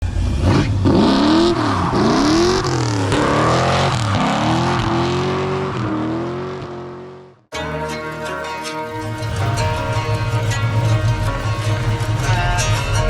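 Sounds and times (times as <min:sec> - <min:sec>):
car engine revving: 0:00.0 - 0:07.5, 0:09.0 - 0:13.0.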